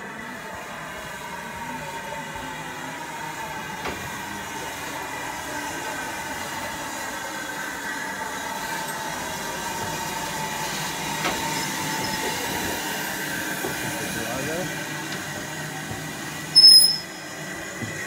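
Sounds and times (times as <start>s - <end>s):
steady steam hiss: 0.0s - 18.0s
steam locomotive moving slowly: 0.0s - 18.0s.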